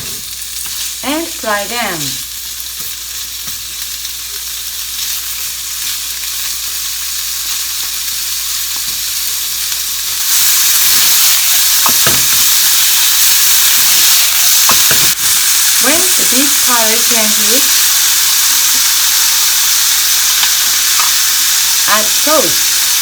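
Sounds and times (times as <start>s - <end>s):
meat sizzling in frying pan: 0.0s - 23.0s.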